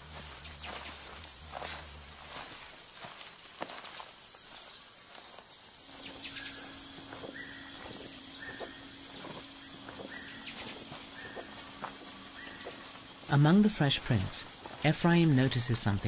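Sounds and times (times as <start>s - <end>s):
low steady drone: 0.0s - 2.7s, 5.8s - 16.0s
high-pitched insect buzz: 0.0s - 16.0s.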